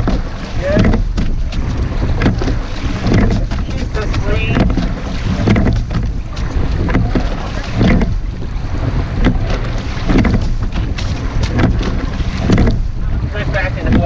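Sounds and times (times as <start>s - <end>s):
oars clunking in oarlocks: 0.0s - 14.0s
oars splashing water: 0.0s - 14.0s
wind rumble on microphone: 0.0s - 14.0s.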